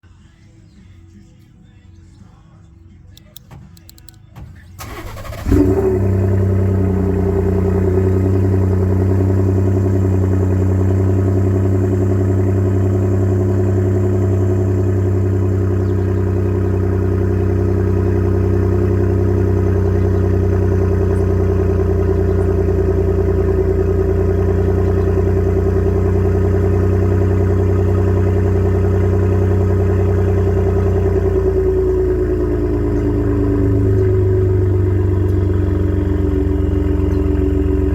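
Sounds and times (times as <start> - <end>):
truck engine starting and idling: 2.9 - 37.9.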